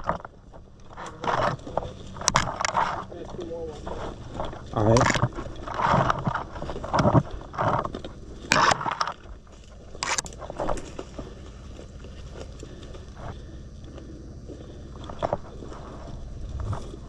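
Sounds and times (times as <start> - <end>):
clothing and gear rustling: 0.0 - 17.0.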